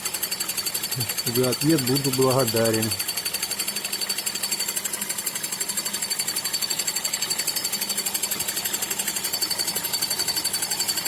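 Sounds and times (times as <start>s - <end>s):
car engine running: 0.0s - 11.0s
fast metallic engine ticking: 0.0s - 11.0s.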